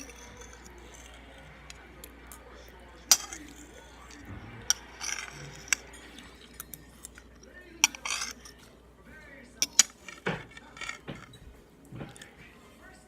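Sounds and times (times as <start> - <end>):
cutlery scraping: 0.0 - 12.4
cutlery clinking against dish: 0.0 - 12.5.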